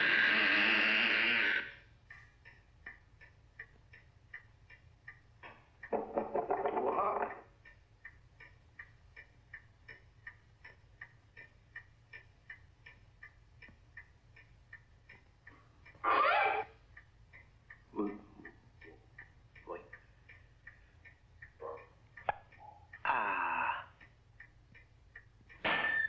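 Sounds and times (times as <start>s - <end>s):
clock ticking: 0.0s - 26.0s.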